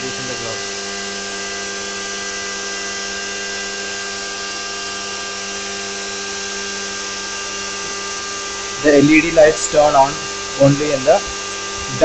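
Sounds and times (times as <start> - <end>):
electric motors and fans whirring: 0.0 - 12.0.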